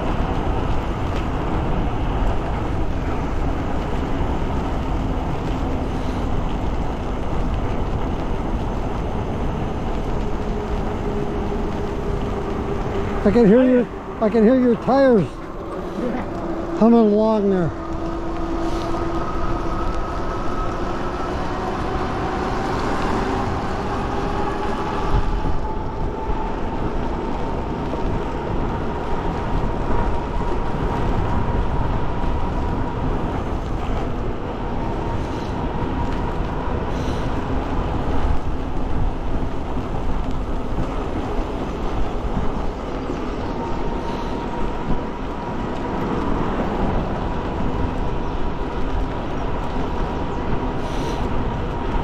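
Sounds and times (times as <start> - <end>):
bike tires humming on wet pavement: 0.0 - 52.0
wind and road noise: 0.0 - 52.0.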